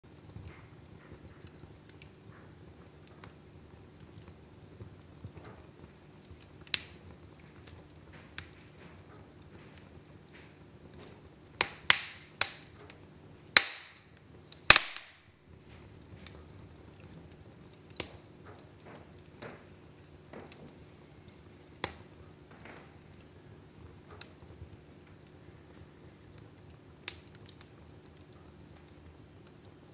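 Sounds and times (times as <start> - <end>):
log fire crackling: 0.0 - 29.9
sharp pops of fire: 0.1 - 29.9.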